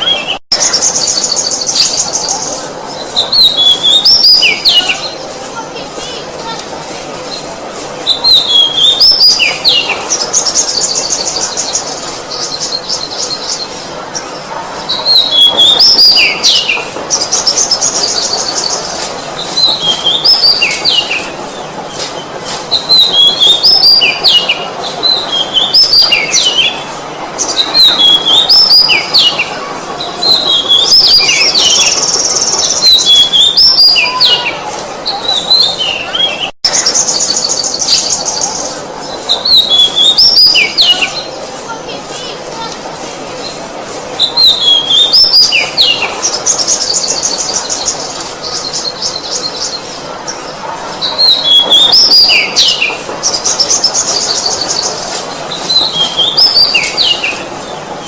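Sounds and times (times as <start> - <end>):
magpie-robin singing: 0.0 - 6.6, 8.0 - 42.8, 44.2 - 57.8.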